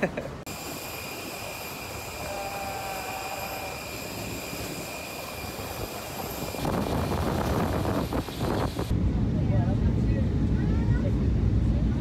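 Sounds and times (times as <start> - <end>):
jet airliner whine: 0.4 - 12.0.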